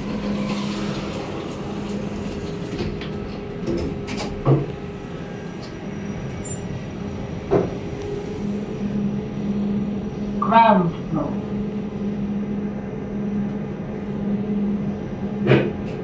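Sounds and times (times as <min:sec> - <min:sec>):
lift car humming: 0:00.0 - 0:16.0.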